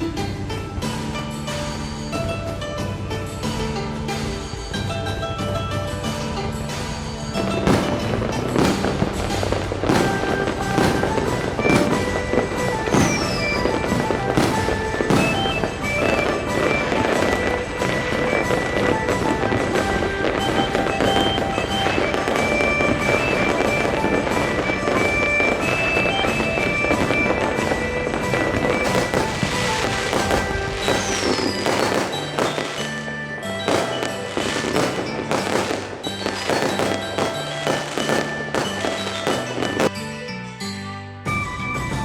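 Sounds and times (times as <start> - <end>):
fireworks crackling and banging: 0.0 - 40.0
background music: 0.0 - 42.0.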